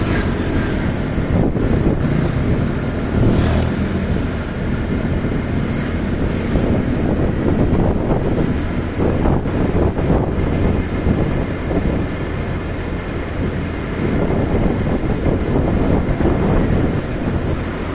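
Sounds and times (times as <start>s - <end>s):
motorcycle engine running: 0.0s - 17.9s
wind noise on microphone: 0.0s - 17.9s.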